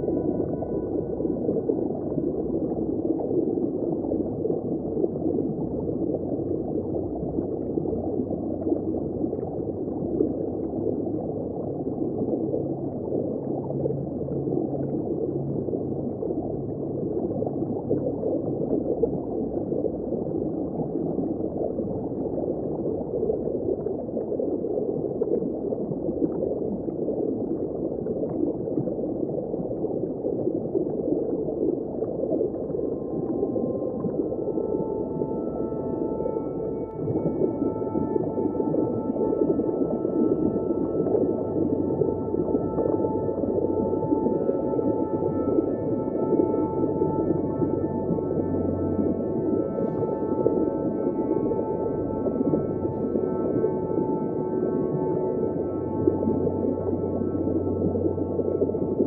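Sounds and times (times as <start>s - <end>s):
muffled underwater water rushing: 0.0s - 59.0s.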